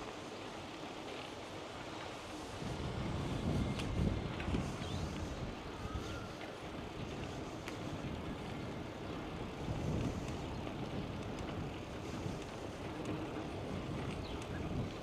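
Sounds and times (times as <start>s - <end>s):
bicycle tyres rolling on path: 0.0s - 15.0s
wind rushing over microphone: 2.2s - 15.0s.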